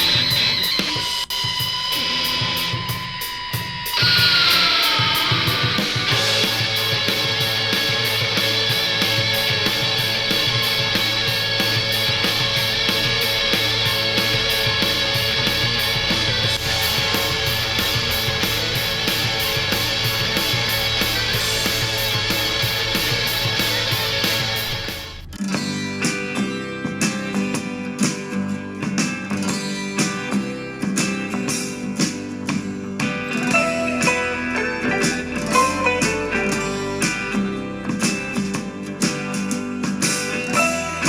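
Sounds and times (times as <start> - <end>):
heavy rock music from speaker: 0.0 - 41.0
strummed acoustic guitar: 3.8 - 41.0.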